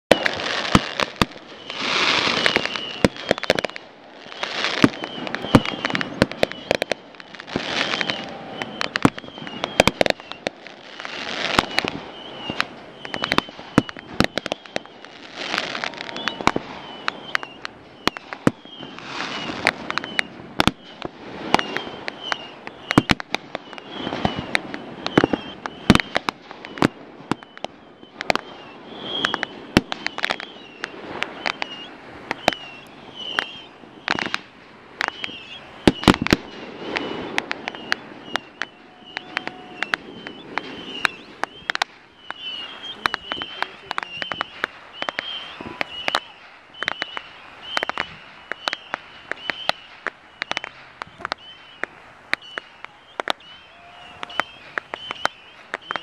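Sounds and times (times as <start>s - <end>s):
fireworks bangs: 0.1s - 56.0s
fireworks crackling: 0.1s - 56.0s.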